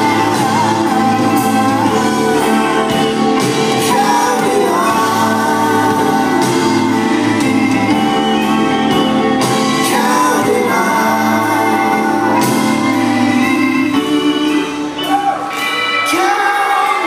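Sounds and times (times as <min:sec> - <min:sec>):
bass guitar: 0:00.0 - 0:17.0
drums: 0:00.0 - 0:17.0
electric guitars: 0:00.0 - 0:17.0
keyboards: 0:00.0 - 0:17.0
person singing: 0:00.0 - 0:17.0.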